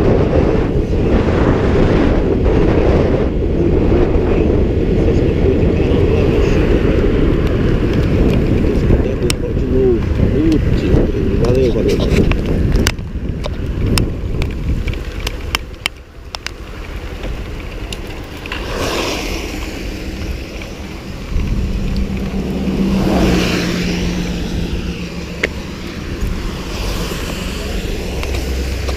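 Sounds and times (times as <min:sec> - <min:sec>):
traffic rumble: 0:00.0 - 0:28.9
vehicles passing: 0:00.0 - 0:28.9.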